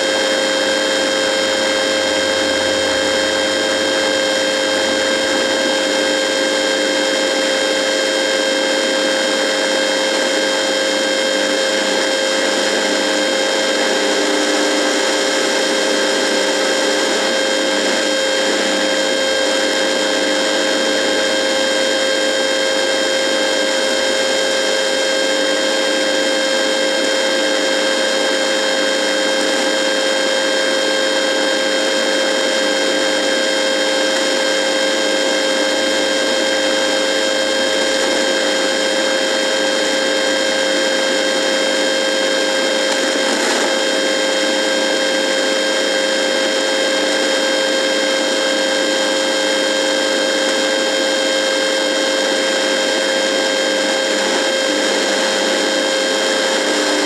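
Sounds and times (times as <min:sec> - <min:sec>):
radio electrical buzz: 0:00.0 - 0:25.6, 0:27.4 - 0:57.0.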